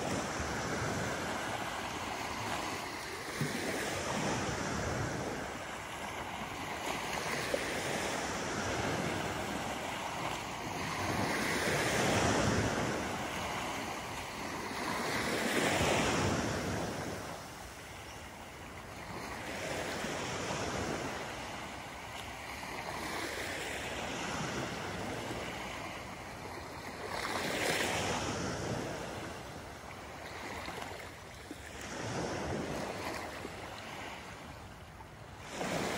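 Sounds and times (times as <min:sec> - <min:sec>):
small waves washing onto sand: 0:00.0 - 0:35.9.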